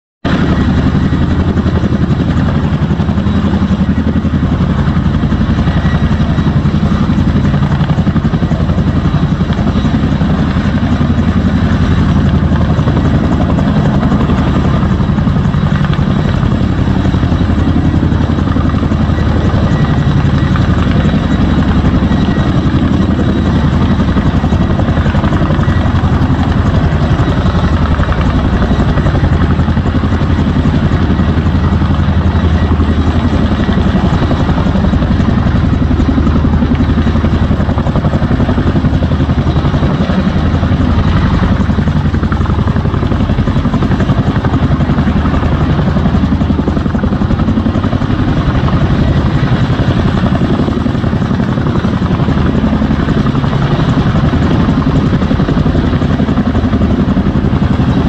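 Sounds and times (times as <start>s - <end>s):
helicopter rotor chop: 0.2s - 58.0s
high turbine whine: 0.3s - 58.0s.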